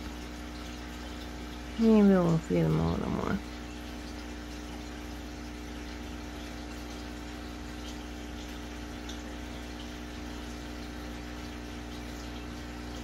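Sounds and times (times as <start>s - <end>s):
aquarium pump hum: 0.0s - 13.0s.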